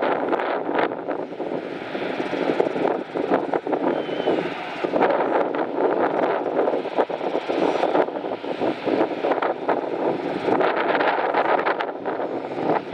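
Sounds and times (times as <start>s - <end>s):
jet engine roar: 0.0s - 12.9s
wind buffeting microphone: 0.0s - 12.9s.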